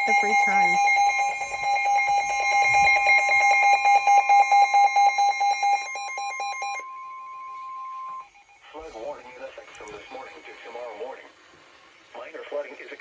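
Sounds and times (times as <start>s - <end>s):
steady alarm tone: 0.0s - 10.8s
rapid electronic alarm beeping: 0.0s - 11.0s.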